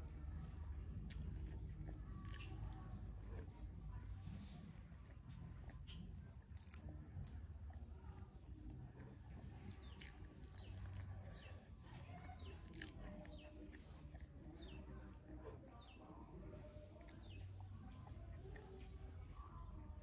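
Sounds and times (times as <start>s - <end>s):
person chewing food: 0.0s - 20.0s
birds chirping: 0.1s - 19.9s.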